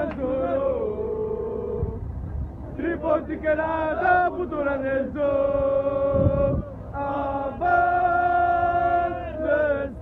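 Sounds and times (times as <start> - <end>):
crowd of men chanting: 0.0 - 2.0, 2.7 - 10.0.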